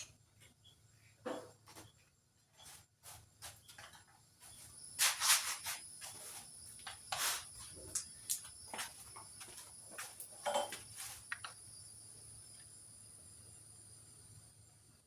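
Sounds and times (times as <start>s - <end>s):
crickets trilling: 2.6s - 15.0s.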